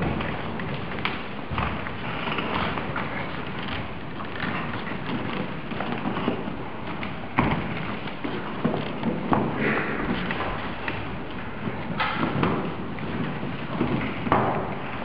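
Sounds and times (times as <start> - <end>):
rustling of people moving: 0.0 - 15.0
shuffling footsteps: 0.0 - 15.0.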